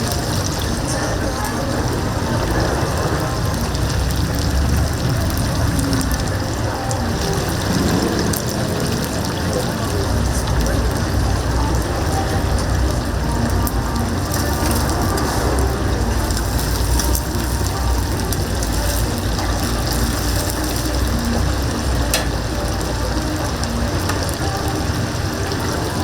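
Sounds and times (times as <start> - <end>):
oil sizzling: 0.0 - 26.0.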